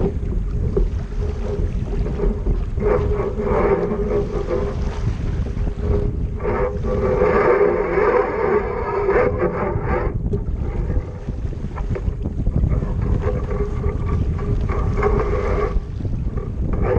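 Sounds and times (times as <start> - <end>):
choppy water: 0.0 - 16.9
wavering hum: 0.0 - 16.9
wind buffeting microphone: 0.0 - 16.9.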